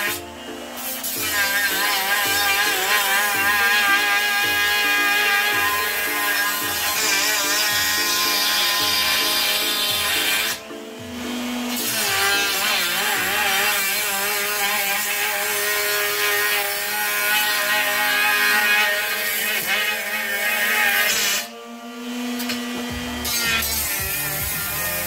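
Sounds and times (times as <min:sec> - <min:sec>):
grinder cutting steel: 0:00.0 - 0:25.0.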